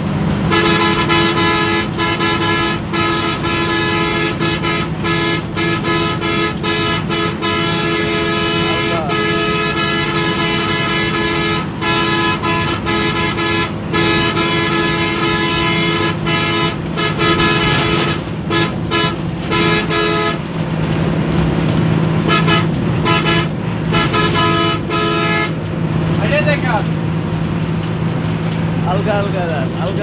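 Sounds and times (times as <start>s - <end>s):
bus engine running: 0.0s - 30.0s
bus horn honking: 0.4s - 20.8s, 21.6s - 25.8s.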